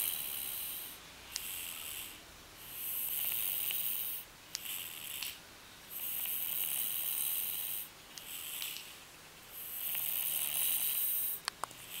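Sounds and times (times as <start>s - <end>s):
snoring airy breaths: 0.0s - 5.4s, 6.0s - 9.0s, 9.6s - 12.0s.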